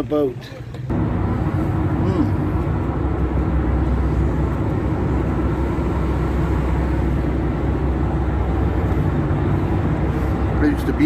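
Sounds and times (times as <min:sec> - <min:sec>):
low engine rumble: 0:00.7 - 0:11.0.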